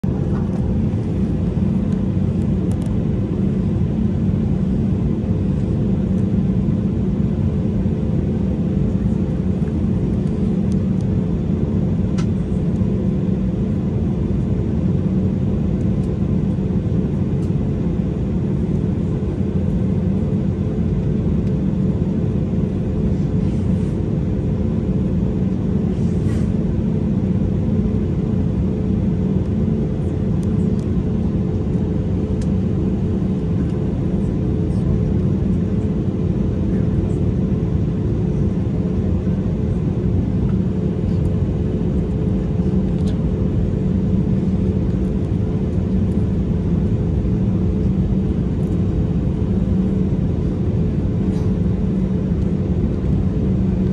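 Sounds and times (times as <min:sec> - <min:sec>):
jet engines droning in cabin: 0:00.0 - 0:53.9.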